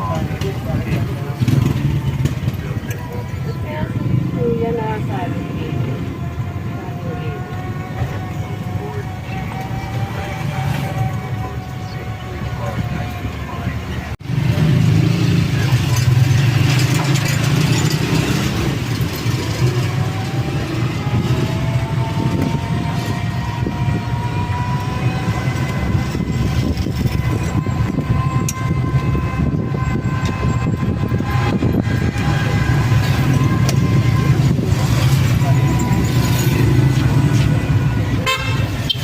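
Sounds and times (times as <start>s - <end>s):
vehicle motor and road noise rumble: 0.0s - 39.0s.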